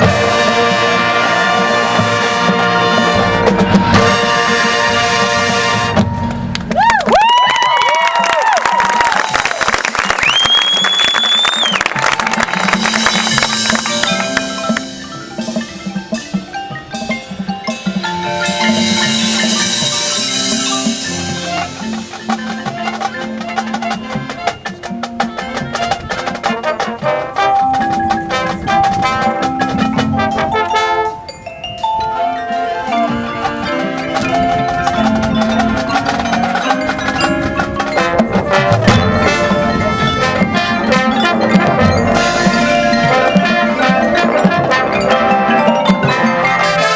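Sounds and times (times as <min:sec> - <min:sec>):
mallet percussion: 0:00.0 - 0:08.2, 0:12.0 - 0:46.9
marching band playing: 0:00.0 - 0:46.9.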